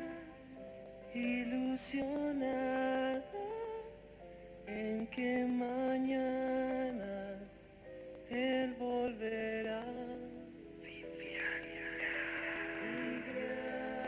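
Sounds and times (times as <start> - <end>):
slow theme music: 0.0 - 14.0.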